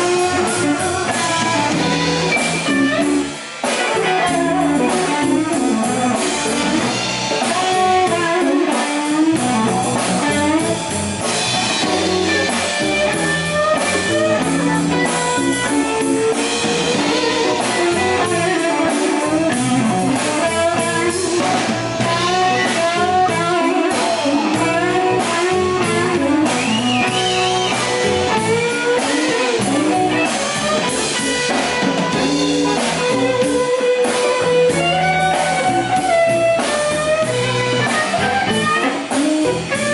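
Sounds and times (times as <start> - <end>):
drum kit: 0.0 - 39.9
electric bass: 0.0 - 39.9
electric guitar lead: 0.0 - 39.9.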